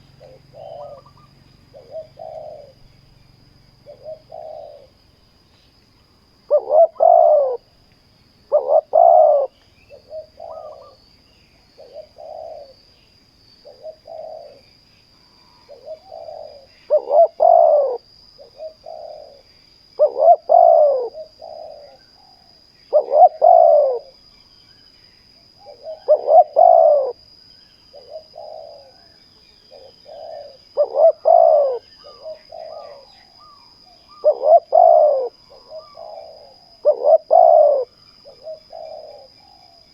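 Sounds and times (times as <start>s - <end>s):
doves cooing: 0.0s - 2.9s, 3.8s - 5.0s, 6.5s - 7.7s, 8.4s - 11.0s, 11.8s - 12.8s, 13.6s - 14.7s, 15.6s - 24.2s, 25.6s - 27.2s, 27.9s - 39.9s.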